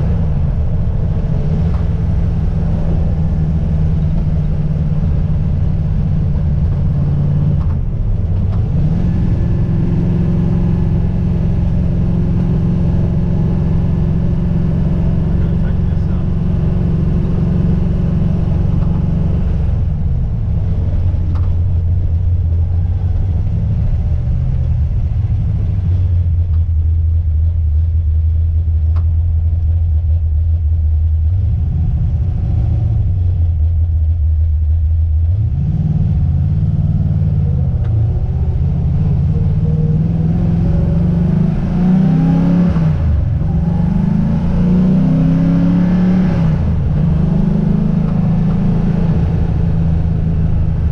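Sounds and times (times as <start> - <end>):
car engine accelerating: 0.0 - 50.9
road noise: 0.0 - 50.9.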